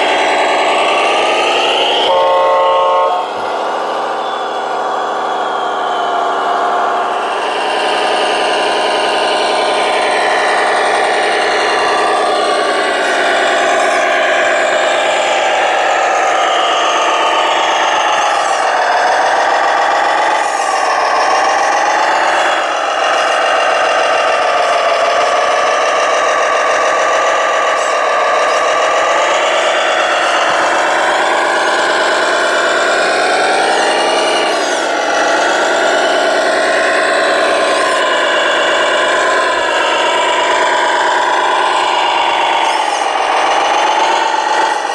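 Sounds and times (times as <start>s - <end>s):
model truck engine drone: 0.0s - 44.9s.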